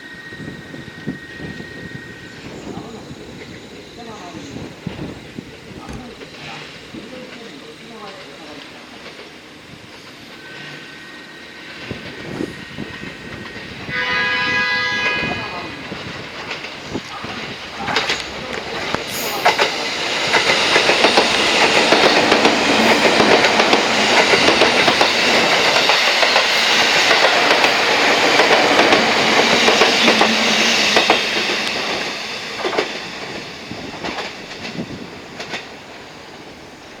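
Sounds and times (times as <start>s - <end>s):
train wheels clattering on rails: 2.4s - 10.8s, 15.8s - 37.0s.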